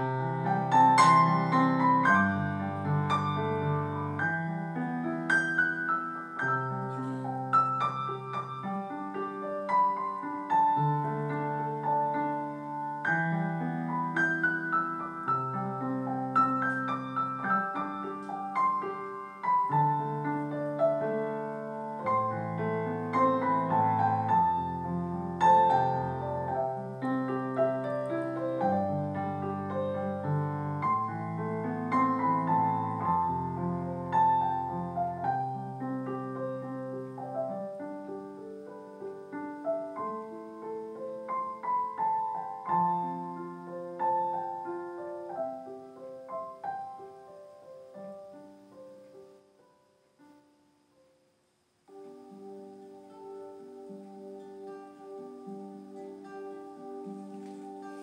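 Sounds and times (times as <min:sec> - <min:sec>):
piano music: 0:00.0 - 0:51.2, 0:51.9 - 0:58.0.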